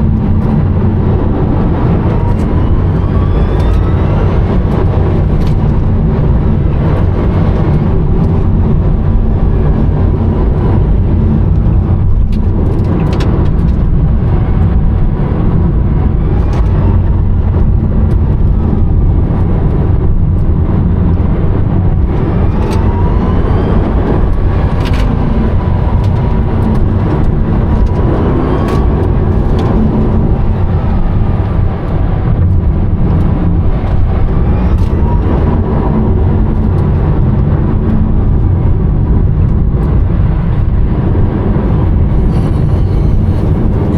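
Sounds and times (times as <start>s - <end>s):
electric motor whine: 0.0s - 11.7s, 13.3s - 38.2s, 40.8s - 43.9s
road and wind rumble in car: 0.0s - 43.9s.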